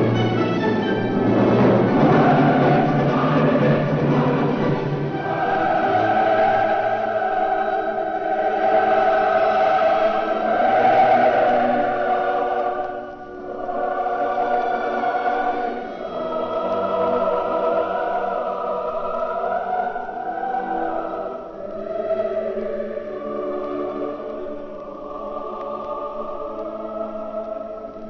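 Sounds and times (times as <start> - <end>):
choir singing held chords: 0.0 - 28.0.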